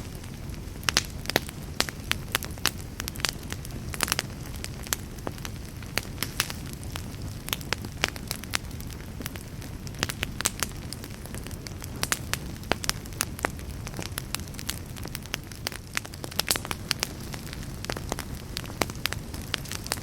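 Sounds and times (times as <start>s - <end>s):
fire crackling: 0.0s - 20.0s
fire pops and snaps: 0.0s - 20.0s.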